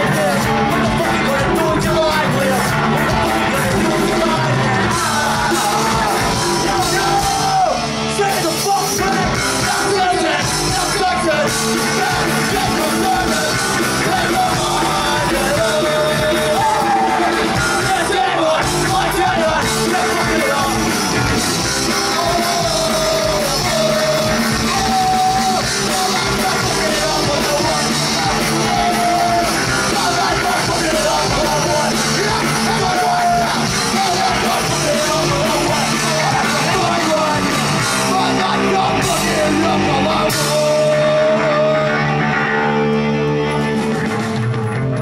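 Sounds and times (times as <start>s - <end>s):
person shouting lead vocal: 0.0s - 42.7s
drums: 0.0s - 45.0s
electric guitar: 0.0s - 45.0s.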